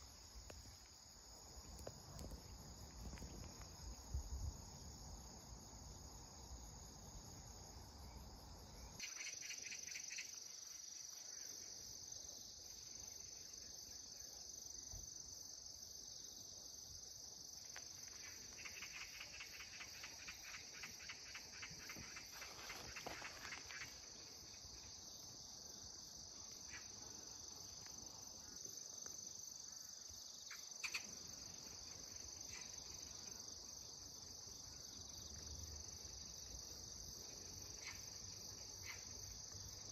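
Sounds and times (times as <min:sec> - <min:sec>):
insects chirring: 0:00.0 - 0:39.9
rapid pulsing insect call: 0:00.0 - 0:39.9.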